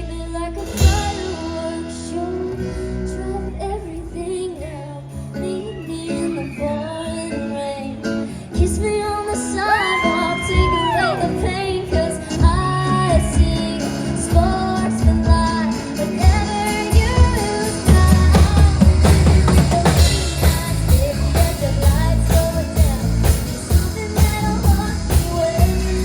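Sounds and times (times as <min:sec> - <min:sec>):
live pop-rock band playing: 0:00.0 - 0:26.0
woman singing: 0:00.0 - 0:26.0.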